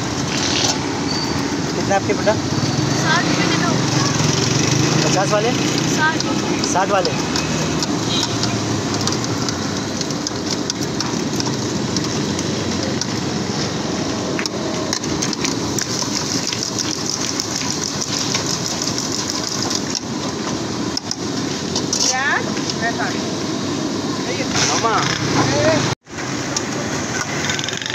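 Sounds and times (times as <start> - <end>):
fries sizzling in bubbling oil: 0.0 - 25.0.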